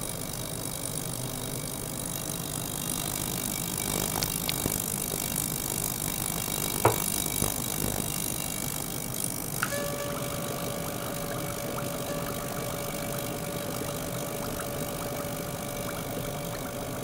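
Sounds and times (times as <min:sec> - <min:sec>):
ultrasonic cleaner buzzing: 0:00.0 - 0:17.0
water stream pouring: 0:02.7 - 0:17.0.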